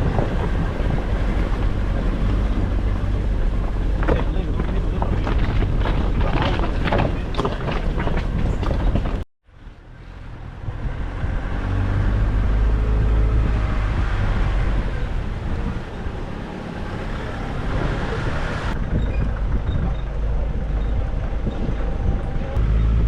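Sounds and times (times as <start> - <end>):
engine and road rumble: 0.0 - 23.0.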